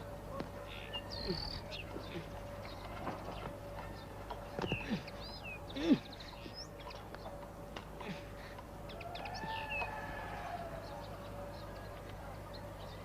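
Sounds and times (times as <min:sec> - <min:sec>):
birds chirping: 0:00.0 - 0:13.0
faint steady hum: 0:00.0 - 0:13.0.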